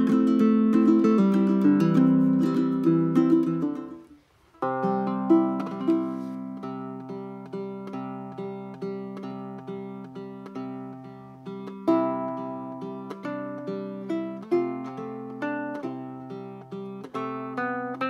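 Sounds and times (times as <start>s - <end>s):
baritone ukulele fingerstyle melody: 0.0s - 18.0s.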